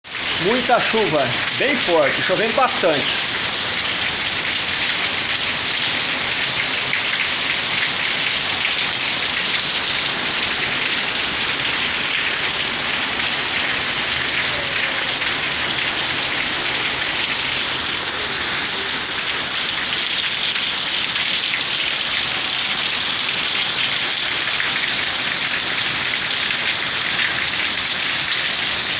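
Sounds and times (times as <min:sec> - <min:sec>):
heavy rain pouring: 0:00.1 - 0:28.9
water falling off a roof: 0:00.1 - 0:28.9.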